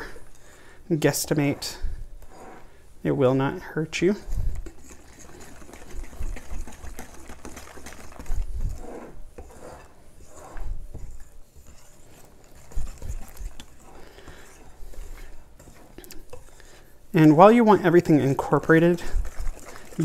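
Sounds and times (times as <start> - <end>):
batter scraping in bowl: 1.0 - 2.8, 4.0 - 20.0.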